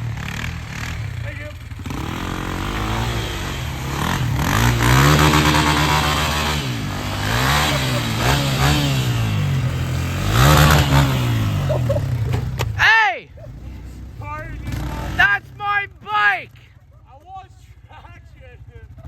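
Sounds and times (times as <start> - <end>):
dirt bike engine revving: 0.0 - 16.8.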